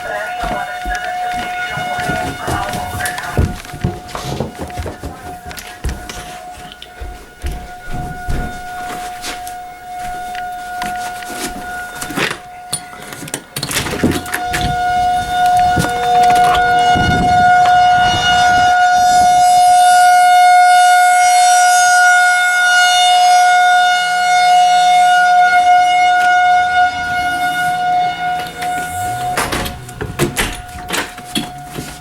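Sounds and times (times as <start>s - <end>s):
warning siren steady tone: 0.0s - 32.0s.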